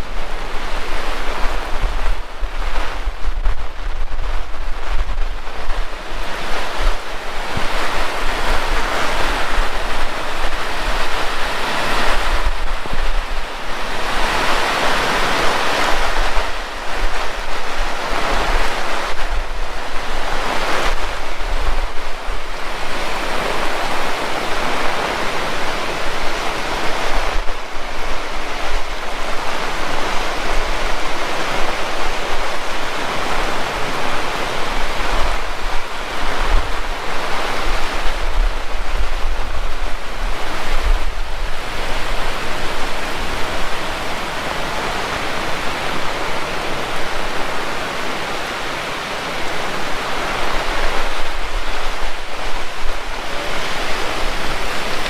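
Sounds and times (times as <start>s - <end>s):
heavy rain pouring: 0.0s - 55.0s
wind buffeting microphone: 0.0s - 55.0s.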